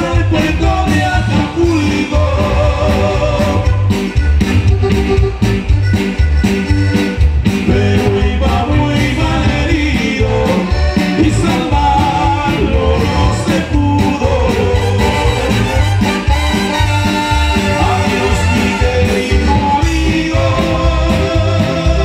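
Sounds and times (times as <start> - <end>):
man singing: 0.0 - 4.0, 7.6 - 22.0
drum kit beat: 0.0 - 22.0
electric guitar: 0.0 - 22.0
keyboards: 0.0 - 22.0.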